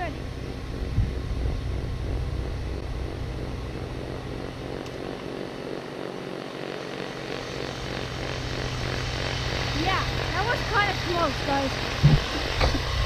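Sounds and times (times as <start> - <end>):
snowblower engine running: 0.0 - 13.0.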